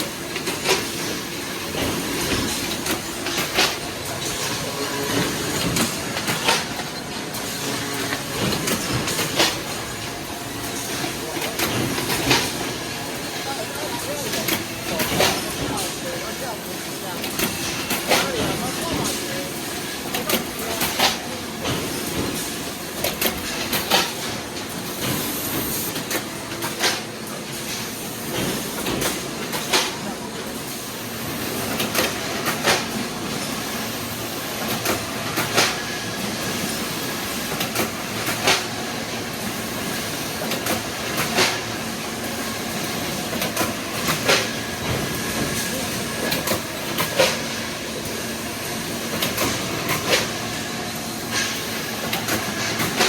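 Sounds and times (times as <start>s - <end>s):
machine clatter: 0.0s - 53.0s.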